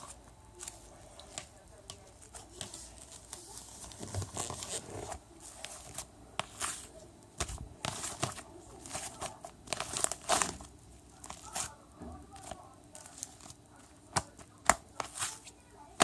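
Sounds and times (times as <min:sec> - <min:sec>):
paper or plastic rustling: 0:00.0 - 0:14.4.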